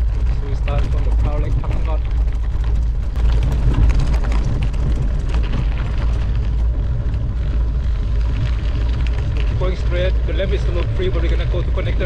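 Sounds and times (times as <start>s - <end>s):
light ticks and rattles: 0.0s - 12.0s
wind buffeting microphone: 0.0s - 12.0s.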